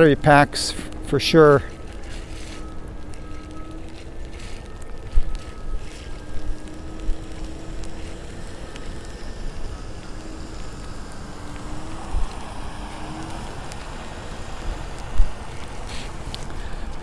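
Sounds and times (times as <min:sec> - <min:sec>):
faint electric motor whine: 0:00.0 - 0:17.0
wind buffeting microphone: 0:00.0 - 0:17.0.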